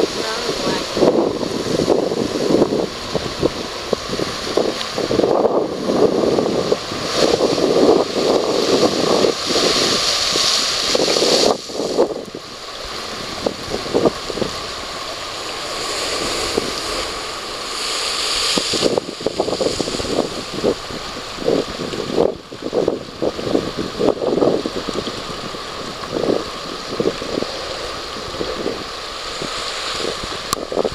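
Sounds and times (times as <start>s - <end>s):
surf washing over rocks: 0.0s - 30.9s
wind buffeting microphone: 0.0s - 30.9s.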